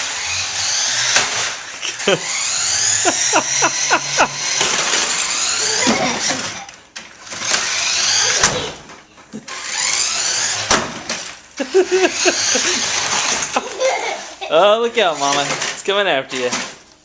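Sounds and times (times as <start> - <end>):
toy truck electric motor whirring: 0.0 - 14.5, 15.1 - 16.7.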